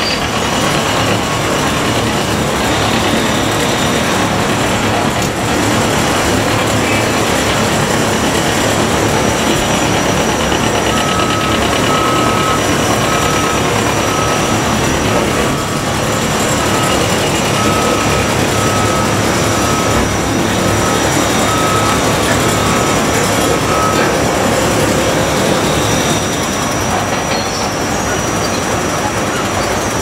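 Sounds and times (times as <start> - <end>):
heavy construction machinery: 0.0 - 30.0
reversing alarm beeping: 0.0 - 30.0.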